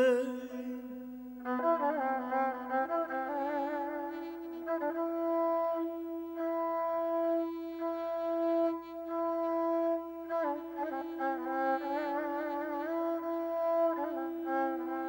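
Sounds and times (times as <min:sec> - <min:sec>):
instrument holding long note: 0:00.0 - 0:15.0.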